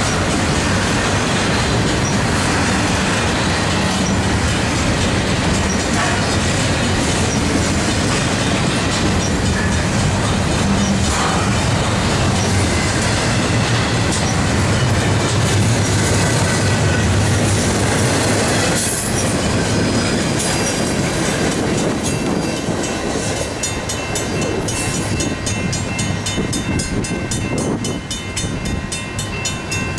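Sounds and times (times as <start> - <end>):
crossing bell ringing: 0.0 - 17.9, 18.5 - 29.9
freight train wheels rumbling on rails: 0.0 - 29.9.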